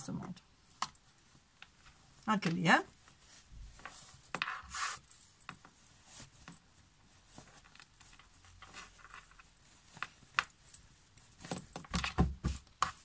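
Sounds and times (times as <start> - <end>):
fabric rustling: 0.4 - 13.0.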